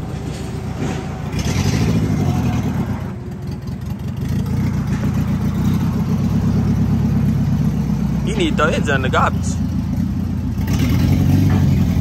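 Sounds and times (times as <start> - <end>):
engine idling with choppy lope: 0.0 - 12.0.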